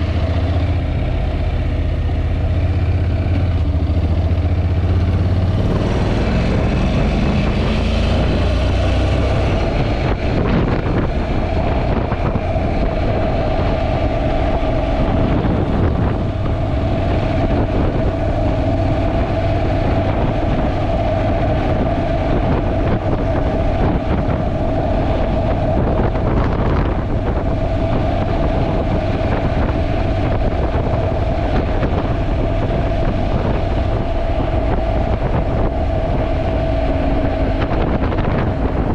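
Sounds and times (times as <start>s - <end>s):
motorcycle engine accelerating: 0.0s - 38.9s
wind buffeting microphone: 0.0s - 38.9s.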